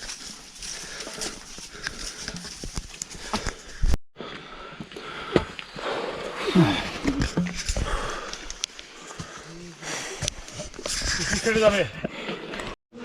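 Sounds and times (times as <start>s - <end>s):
footsteps on rocky trail: 0.0s - 12.7s.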